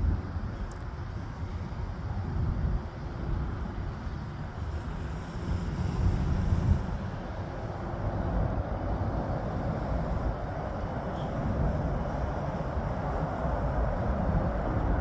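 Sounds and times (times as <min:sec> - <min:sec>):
distant jet engines at takeoff: 0:00.0 - 0:15.0.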